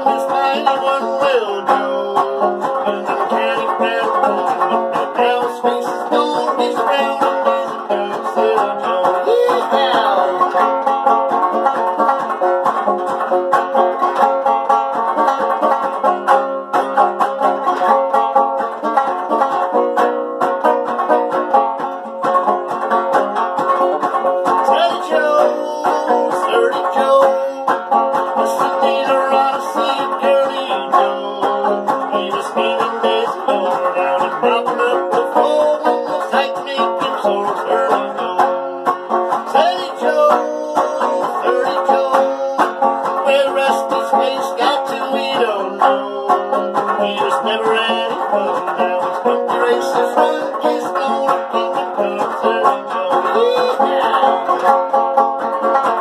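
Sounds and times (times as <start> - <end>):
banjo plucking: 0.0 - 56.0.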